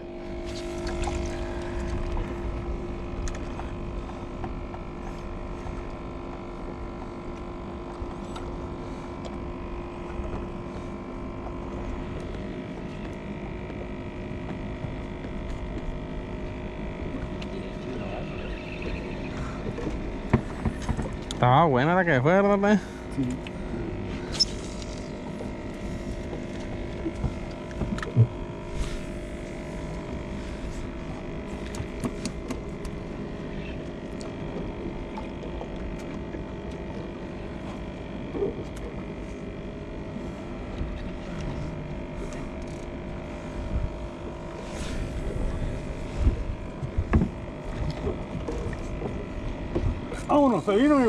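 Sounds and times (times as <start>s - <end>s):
steady motor hum: 0.0s - 51.0s.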